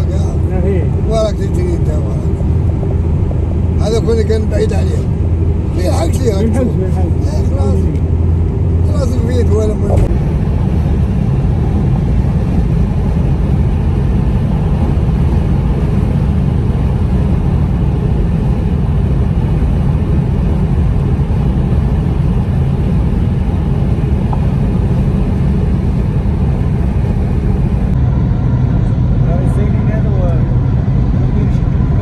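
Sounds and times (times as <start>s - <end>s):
car road noise from inside cabin: 0.0s - 32.0s.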